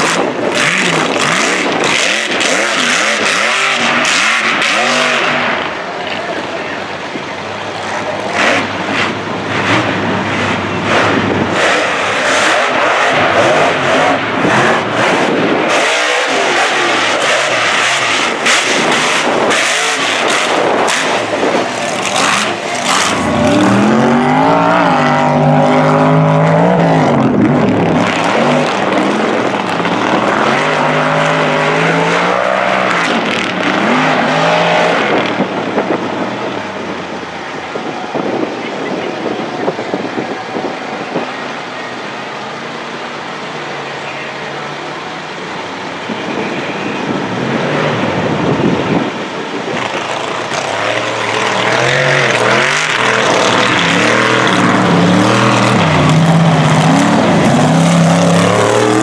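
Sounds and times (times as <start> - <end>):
truck engine roaring: 0.0 - 59.0.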